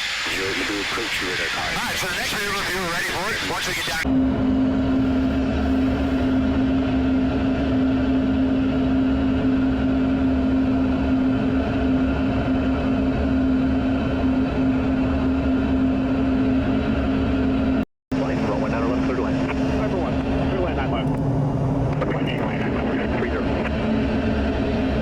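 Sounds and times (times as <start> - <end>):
fighter jet drone: 0.0 - 25.0.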